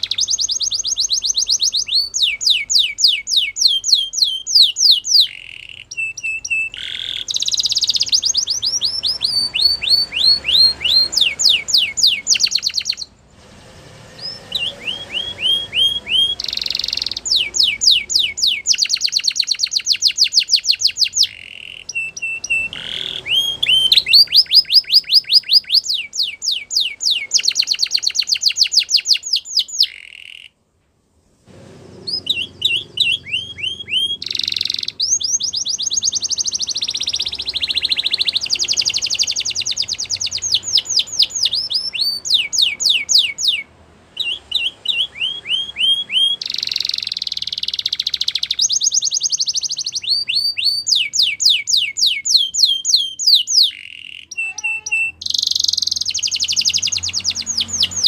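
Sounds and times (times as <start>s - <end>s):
canary singing trills: 0.0s - 30.6s, 32.0s - 58.0s.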